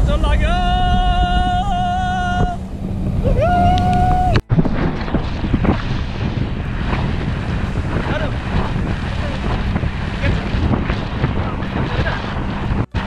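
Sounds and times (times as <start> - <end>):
boat engine: 0.0 - 13.0
water noise: 0.0 - 13.0
wind buffeting microphone: 0.0 - 13.0.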